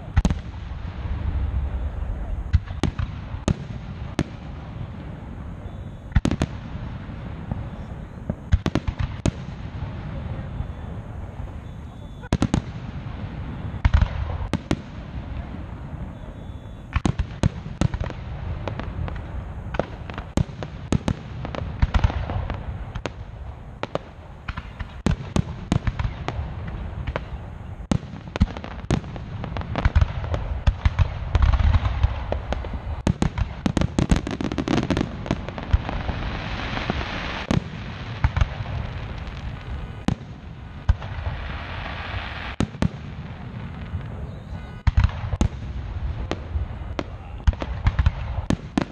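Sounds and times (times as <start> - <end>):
fireworks bangs: 0.0 - 48.9
fireworks crackling hiss: 0.0 - 48.9.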